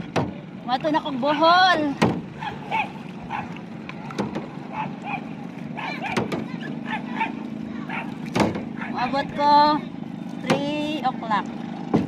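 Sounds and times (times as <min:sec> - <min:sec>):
paddle knocking against hull: 0:00.0 - 0:09.1, 0:10.2 - 0:12.0
paddle stroking through water: 0:00.0 - 0:12.0.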